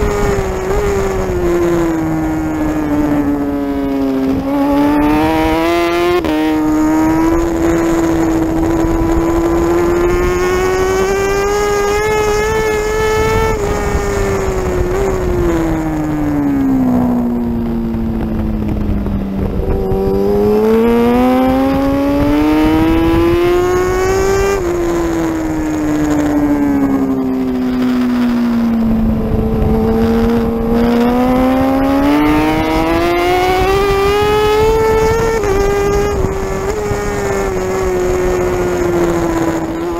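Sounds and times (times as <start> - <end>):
superbike engine at high revs: 0.0 - 39.9.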